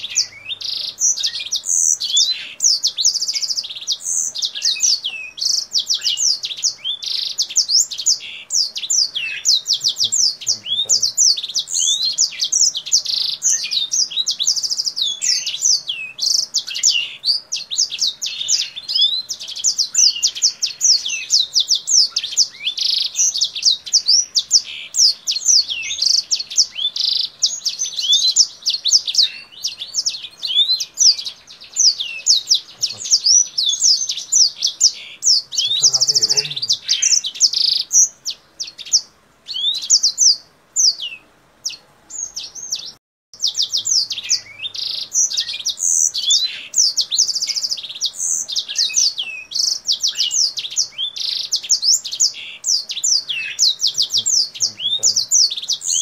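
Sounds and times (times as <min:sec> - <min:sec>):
songbird singing whistles and trills: 0:00.0 - 0:56.0.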